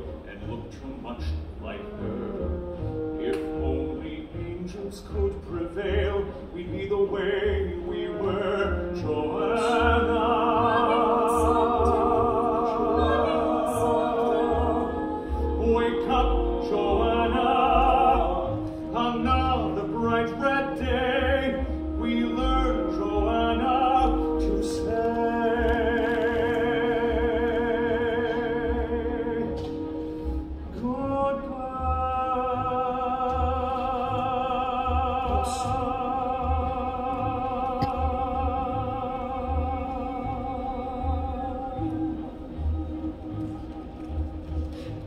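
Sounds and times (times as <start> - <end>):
orchestra sustained chords: 0.0 - 45.0.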